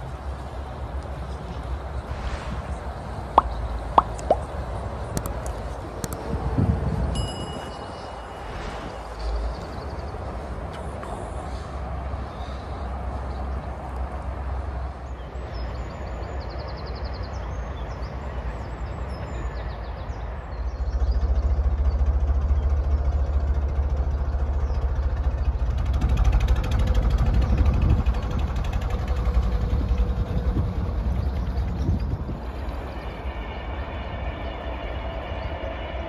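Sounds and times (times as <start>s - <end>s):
diesel engine idling: 0.0s - 7.1s, 7.8s - 36.0s.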